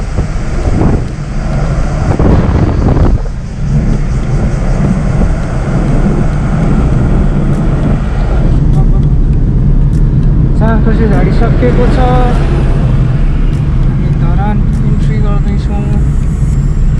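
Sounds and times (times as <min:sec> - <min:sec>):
vehicle engine hum: 0:00.0 - 0:16.9
wind buffeting microphone: 0:00.0 - 0:16.9.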